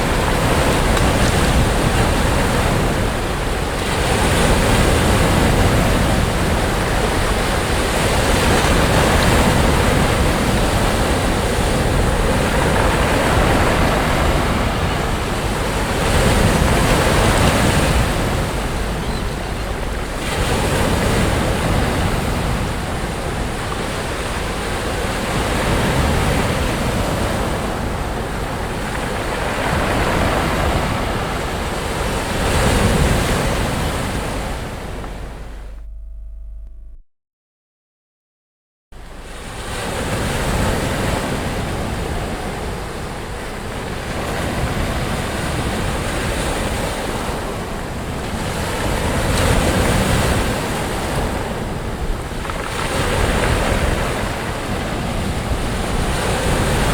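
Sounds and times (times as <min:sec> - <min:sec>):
waves breaking on sandy beach: 0:00.0 - 0:35.7, 0:39.0 - 0:56.9
wind rumble on microphone: 0:00.0 - 0:37.0, 0:39.0 - 0:56.9.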